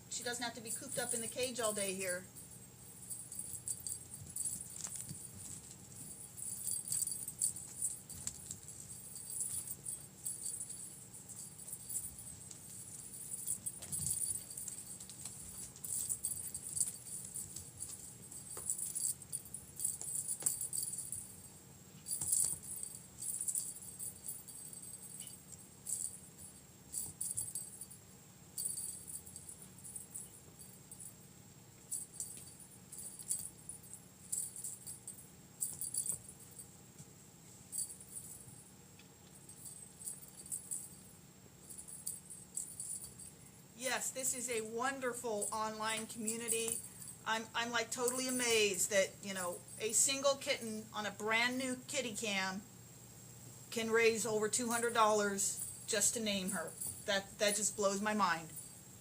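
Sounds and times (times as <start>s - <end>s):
small jingle bell jingling: 0.1s - 52.1s, 54.0s - 59.0s.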